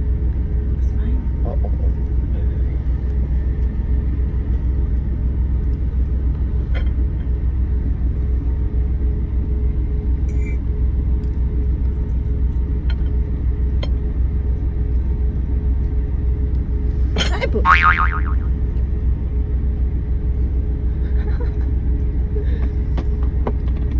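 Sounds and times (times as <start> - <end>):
truck engine rumble: 0.0 - 23.9.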